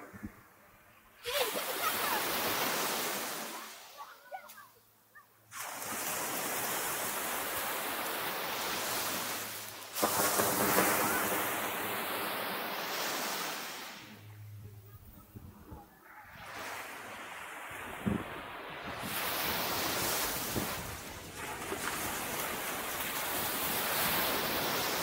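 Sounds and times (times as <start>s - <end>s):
sea surf washing on sand: 1.2s - 4.6s, 5.5s - 14.3s, 16.4s - 25.0s.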